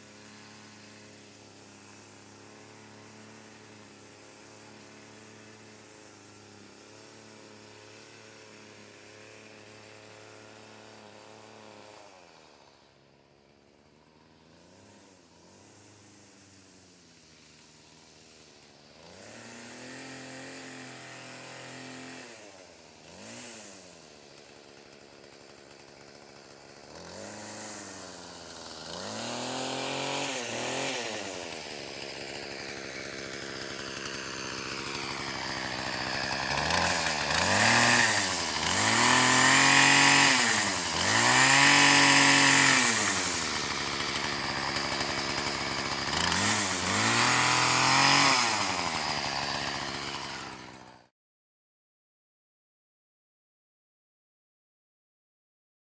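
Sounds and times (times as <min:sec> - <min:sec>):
string trimmer engine revving: 0:00.0 - 0:51.1.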